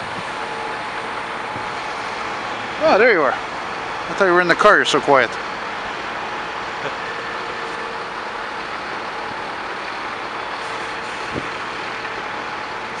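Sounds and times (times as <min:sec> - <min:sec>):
heavy diesel trucks running: 0:00.0 - 0:13.0.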